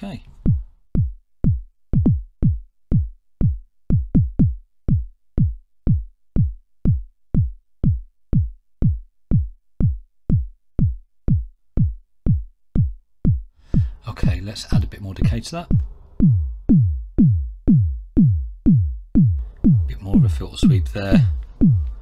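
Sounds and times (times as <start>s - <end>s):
synth kick drum thumps: 0.4s - 22.0s.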